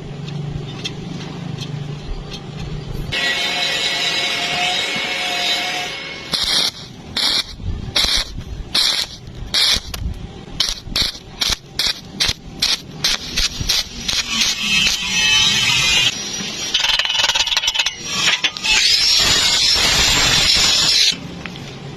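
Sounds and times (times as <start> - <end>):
welding arc crackling hisses: 3.2 - 21.7.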